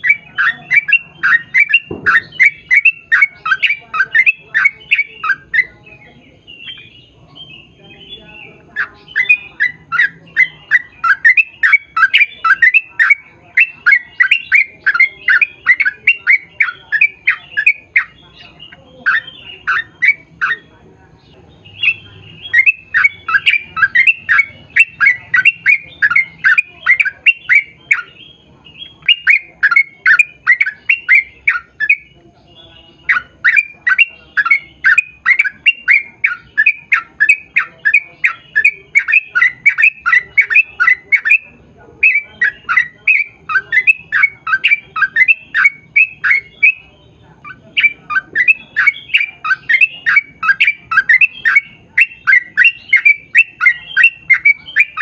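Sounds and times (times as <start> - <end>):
bird singing chattering song: 0.0 - 55.0.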